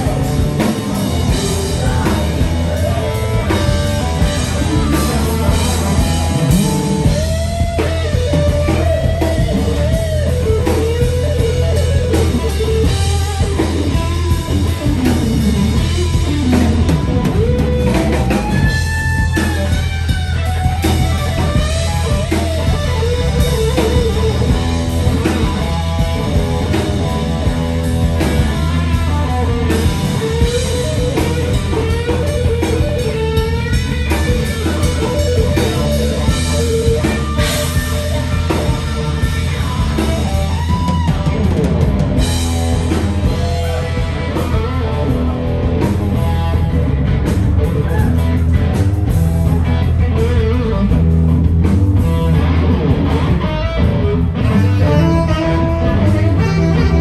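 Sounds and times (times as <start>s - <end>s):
drum kit: 0.0s - 57.0s
electric guitar solo: 0.0s - 57.0s
steady low bass line: 0.0s - 57.0s.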